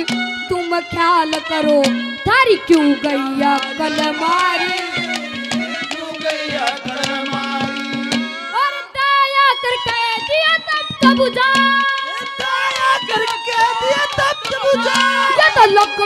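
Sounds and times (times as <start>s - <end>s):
tabla strokes: 0.0s - 8.6s, 9.8s - 16.0s
boy singing long notes: 0.0s - 16.0s
held melody: 0.0s - 16.0s.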